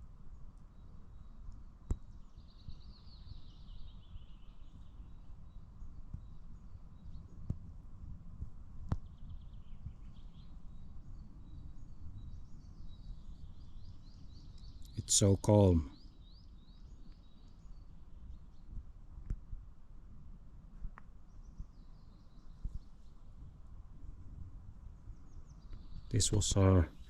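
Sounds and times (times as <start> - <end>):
songbirds trilling: 0.0 - 7.4, 9.0 - 18.8, 21.1 - 27.0
wind rumble on microphone: 0.0 - 15.0, 16.0 - 27.0.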